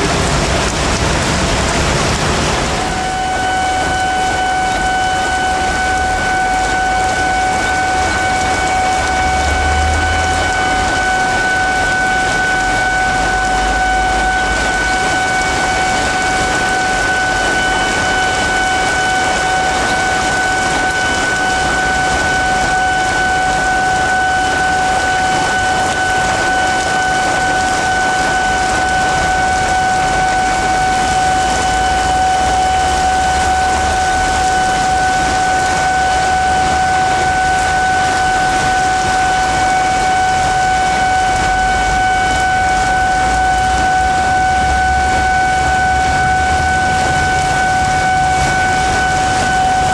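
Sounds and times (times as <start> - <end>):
heavy rain hissing: 0.0 - 49.9
level-crossing warning alarm: 0.0 - 49.9.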